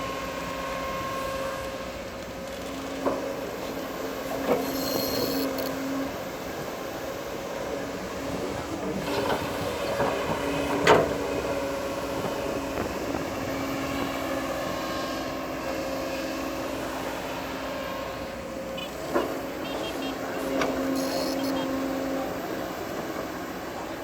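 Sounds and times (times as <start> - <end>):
bulldozer engine whining: 0.0 - 24.0.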